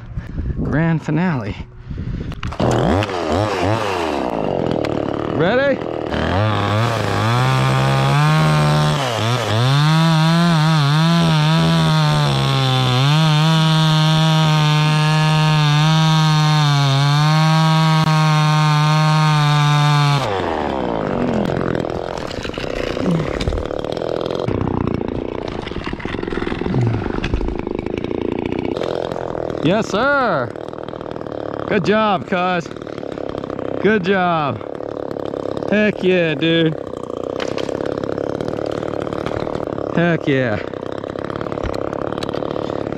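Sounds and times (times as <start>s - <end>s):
chainsaw cutting wood: 2.3s - 42.9s.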